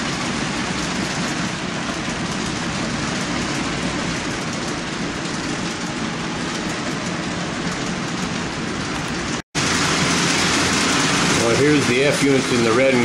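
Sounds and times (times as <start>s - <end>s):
model train wheels rolling on rails: 0.0s - 13.0s.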